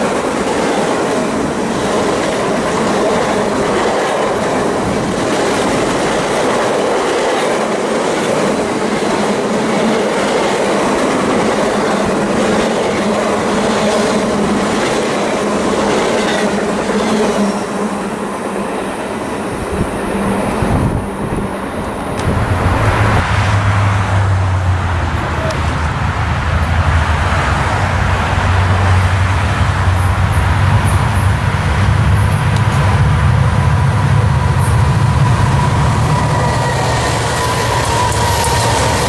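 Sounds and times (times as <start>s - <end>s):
freight train cars rolling past: 0.0s - 39.0s.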